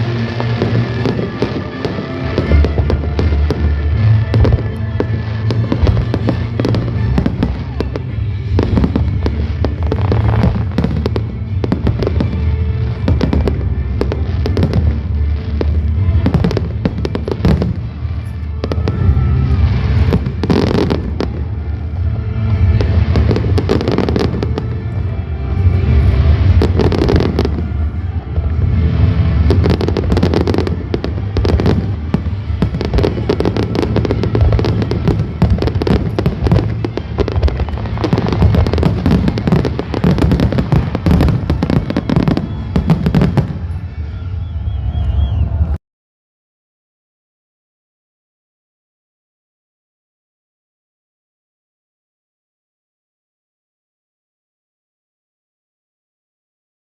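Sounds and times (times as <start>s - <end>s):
fireworks bursting and crackling: 0.0s - 45.8s
low rumble of explosions: 0.0s - 45.8s.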